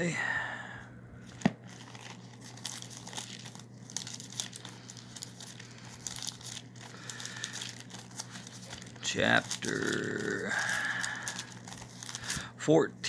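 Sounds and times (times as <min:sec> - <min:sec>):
steady low hum: 0:00.0 - 0:13.0
thin pages rustling: 0:01.2 - 0:12.5.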